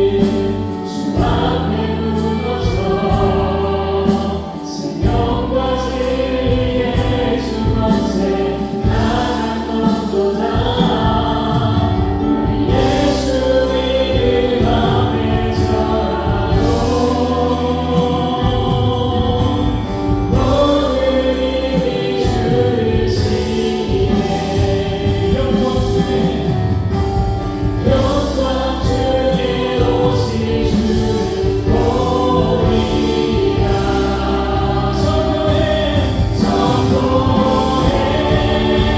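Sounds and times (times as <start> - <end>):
voices singing together: 0.0 - 38.9
worship band playing: 0.0 - 38.9.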